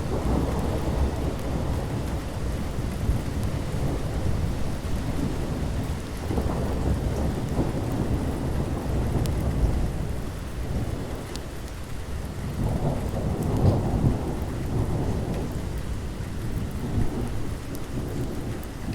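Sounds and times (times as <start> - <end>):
rolling thunder: 0.0 - 11.3, 12.4 - 18.9
steady rain: 0.0 - 18.9.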